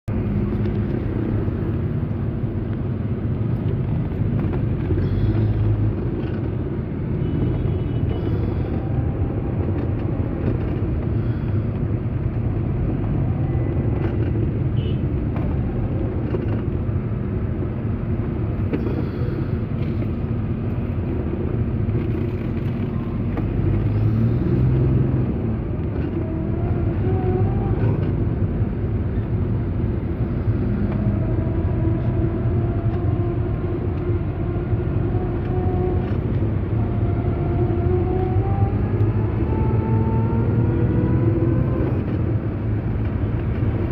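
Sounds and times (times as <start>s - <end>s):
road traffic hum: 0.0s - 43.9s.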